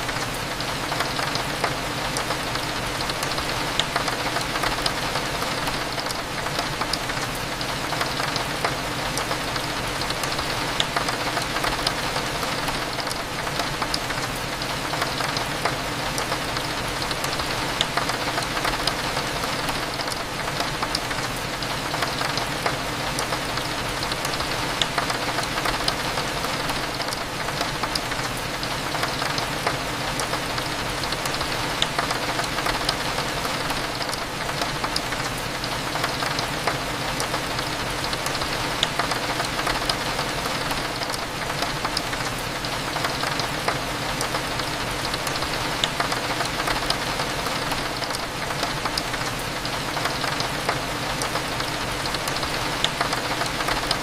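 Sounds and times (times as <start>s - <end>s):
rain against a window: 0.0s - 54.0s
raindrop ticks: 0.0s - 54.0s.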